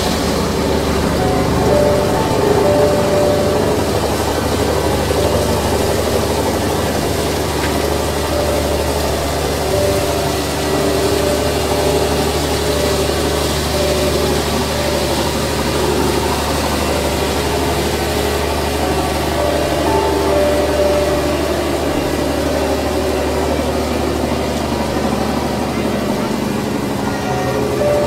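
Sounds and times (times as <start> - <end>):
ship engine idling: 0.0 - 28.0.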